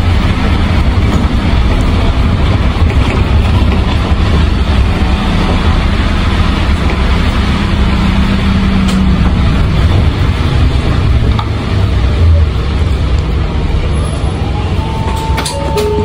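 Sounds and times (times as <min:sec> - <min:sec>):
bus engine drone: 0:00.0 - 0:16.0
road noise: 0:00.0 - 0:16.0.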